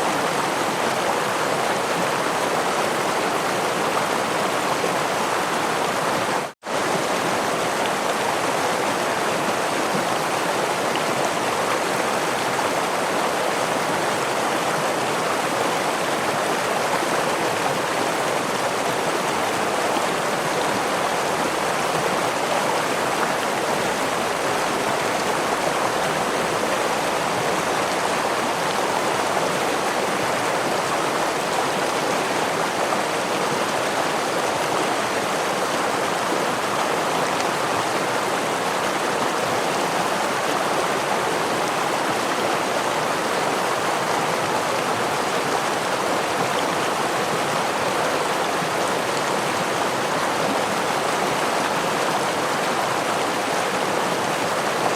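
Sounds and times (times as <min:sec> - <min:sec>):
stream over small waterfall: 0:00.0 - 0:54.9.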